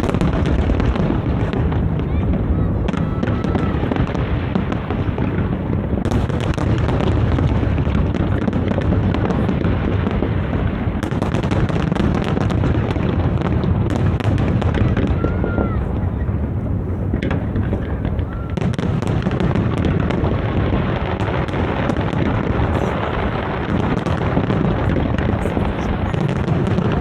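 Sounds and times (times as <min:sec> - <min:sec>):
firework shell bursts booming: 0:00.0 - 0:27.0
fireworks crackling: 0:00.0 - 0:27.0.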